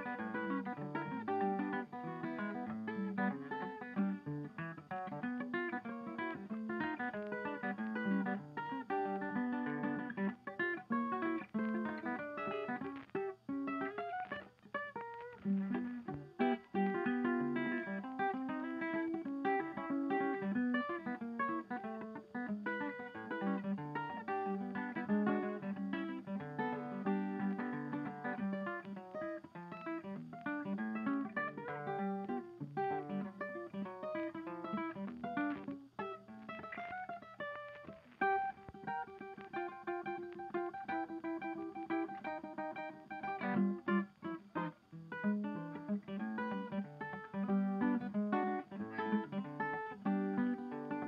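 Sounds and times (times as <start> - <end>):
plucked acoustic guitar music: 0.0 - 51.0.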